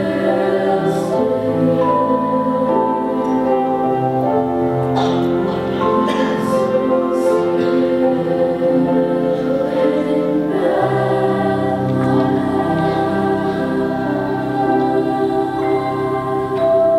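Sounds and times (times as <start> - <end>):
women's chorus singing chords: 0.0 - 16.9.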